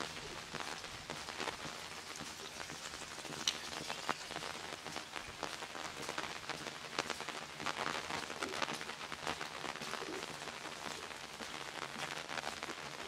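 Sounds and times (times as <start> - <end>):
rain on a wet street: 0.0 - 13.0.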